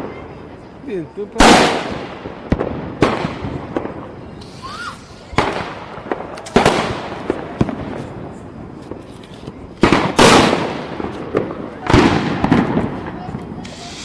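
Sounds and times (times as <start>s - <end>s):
firecracker bangs echoing: 1.3s - 9.0s, 9.8s - 14.0s
firecracker sharp cracks: 1.4s - 9.2s, 9.8s - 14.0s.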